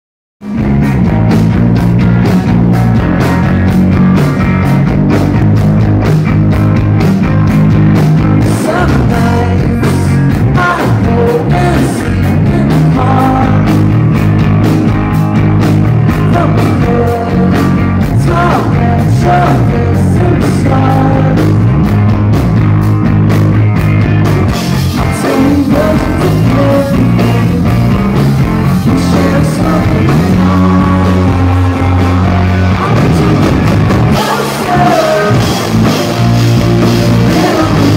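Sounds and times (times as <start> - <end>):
bass guitar: 0.4 - 37.9
drums with steady beat: 0.4 - 37.9
electric guitars: 0.4 - 37.9.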